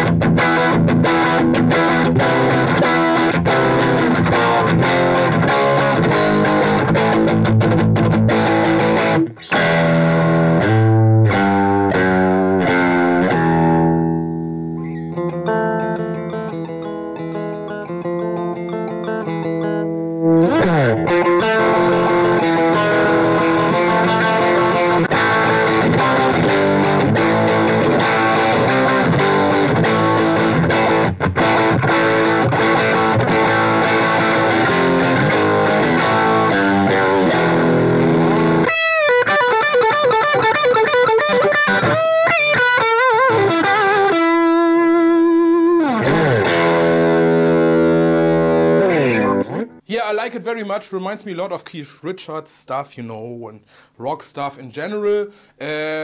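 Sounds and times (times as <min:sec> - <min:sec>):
distorted electric guitar: 0:00.0 - 0:49.9.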